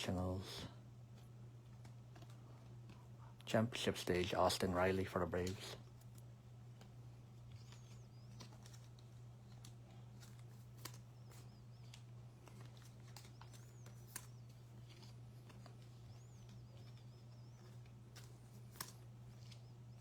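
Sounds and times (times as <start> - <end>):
steady low hum: 0.0 - 20.0
cards and packs clicking: 1.2 - 3.0, 5.4 - 20.0.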